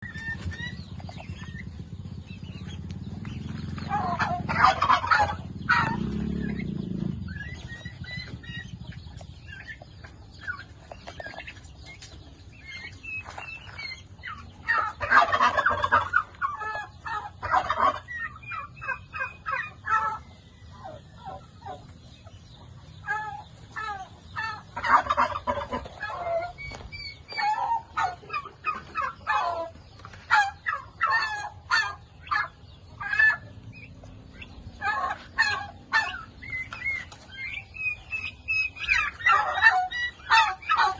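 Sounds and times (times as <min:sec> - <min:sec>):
turkeys gobbling: 0:00.0 - 0:40.9.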